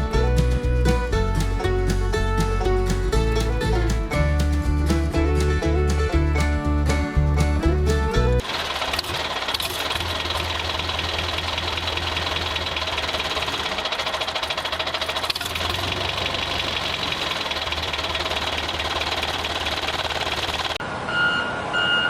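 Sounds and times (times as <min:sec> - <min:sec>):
engine idling with knocking clatter: 0:00.0 - 0:20.8.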